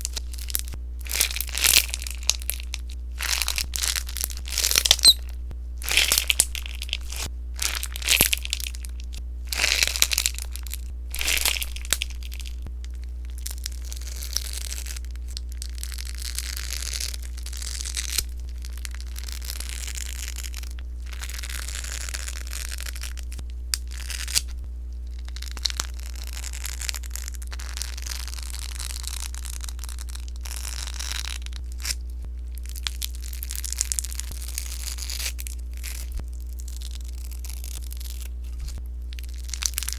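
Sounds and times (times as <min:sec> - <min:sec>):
slime squeezed popping and crackling: 0:00.0 - 0:39.9.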